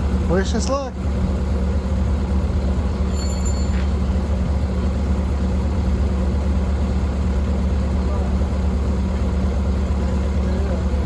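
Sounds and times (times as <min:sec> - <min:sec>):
skid loader engine droning: 0:00.0 - 0:11.0.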